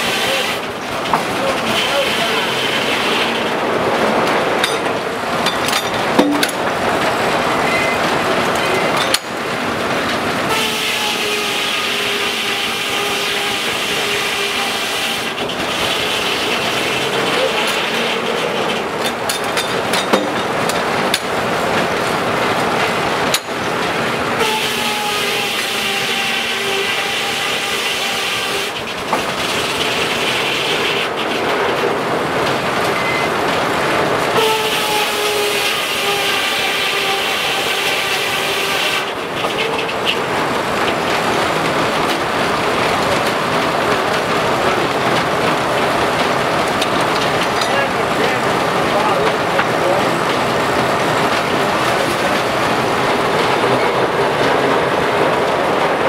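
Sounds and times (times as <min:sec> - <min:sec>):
steady machinery noise: 0:00.0 - 0:56.0.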